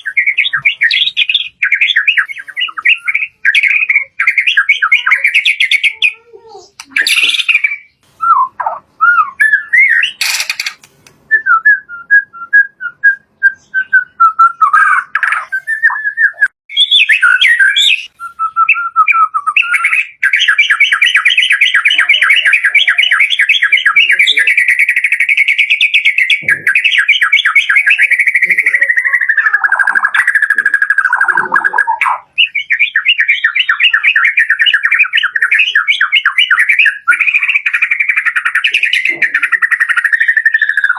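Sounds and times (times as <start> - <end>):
songbird whistling: 0.0 - 6.0, 6.8 - 40.9.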